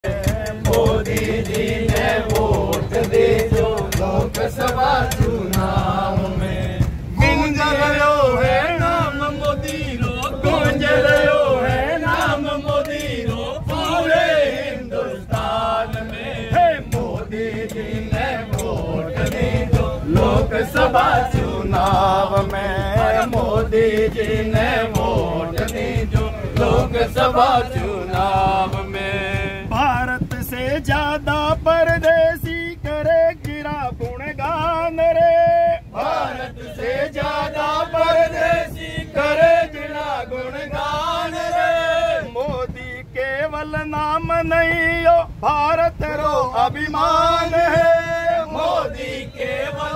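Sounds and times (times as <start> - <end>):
sharp claps keeping time: 0.0 - 43.5
lead voice singing: 0.0 - 49.9
men singing a chant: 0.0 - 49.9
train low rumble: 0.0 - 49.9.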